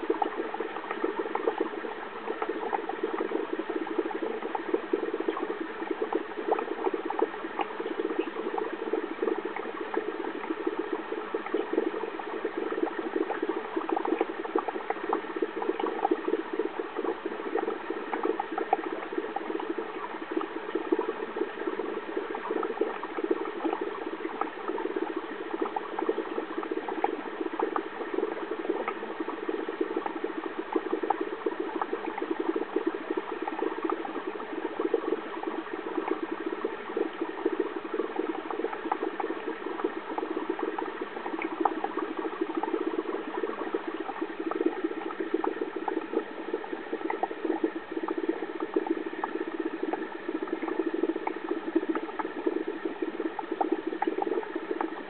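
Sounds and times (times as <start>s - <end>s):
aquarium water bubbling: 0.0s - 55.0s
constant hum: 0.0s - 55.0s.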